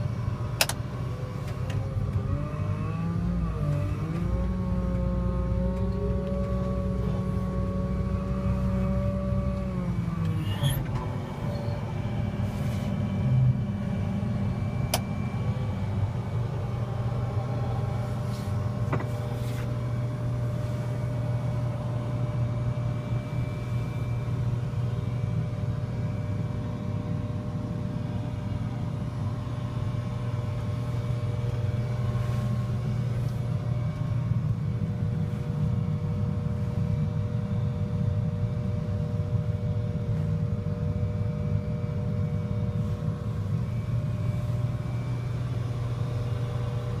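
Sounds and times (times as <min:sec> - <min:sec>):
diesel engine running: 0:00.0 - 0:47.0
high engine whine: 0:00.0 - 0:47.0.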